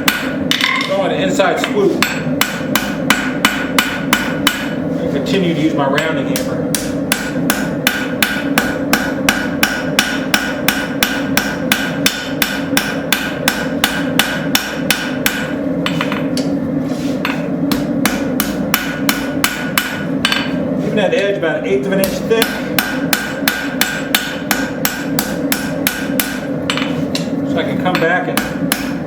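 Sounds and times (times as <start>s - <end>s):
hammer striking hot metal: 0.0s - 4.8s, 6.0s - 16.6s, 17.2s - 20.6s, 22.0s - 29.0s.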